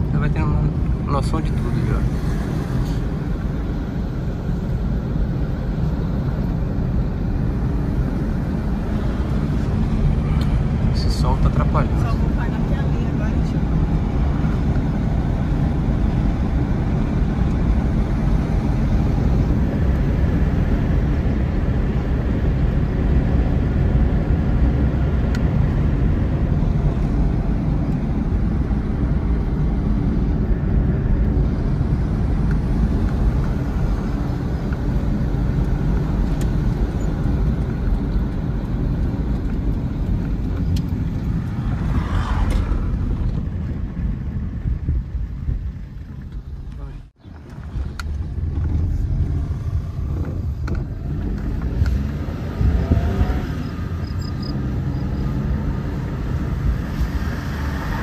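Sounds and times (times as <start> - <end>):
car engine: 0.0 - 58.0
road noise: 0.0 - 58.0.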